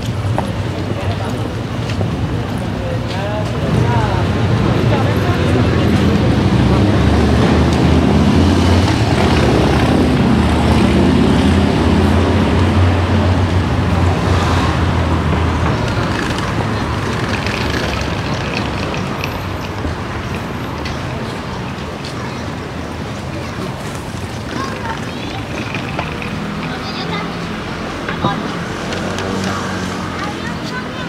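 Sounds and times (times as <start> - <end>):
street traffic: 0.0 - 31.0
vehicle engine rumbling: 0.0 - 31.0.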